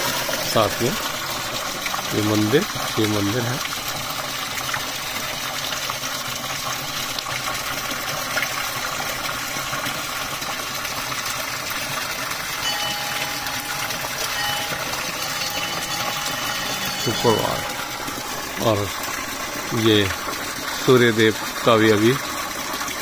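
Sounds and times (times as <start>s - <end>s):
water pouring from spring: 0.0s - 23.0s.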